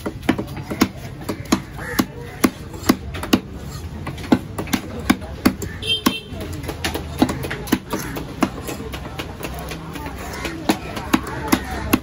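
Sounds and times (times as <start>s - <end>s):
knife chopping on wooden block: 0.0s - 12.0s.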